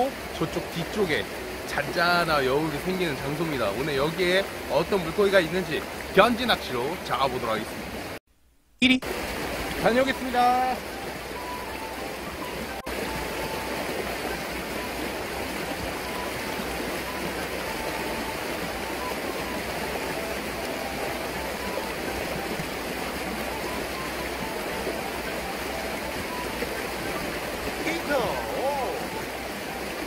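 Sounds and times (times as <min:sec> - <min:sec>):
river rushing over stones: 0:00.0 - 0:08.2, 0:09.0 - 0:30.0.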